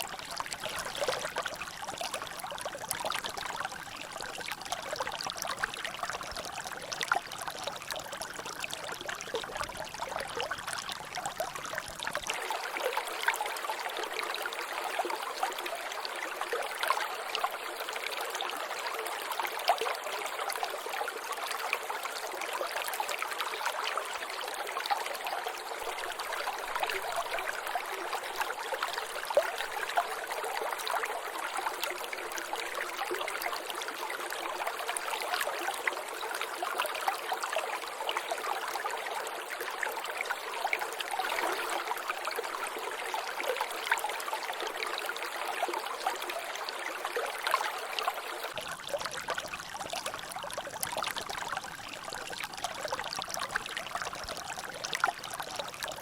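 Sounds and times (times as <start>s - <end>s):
water trickling and dripping: 0.0s - 56.0s.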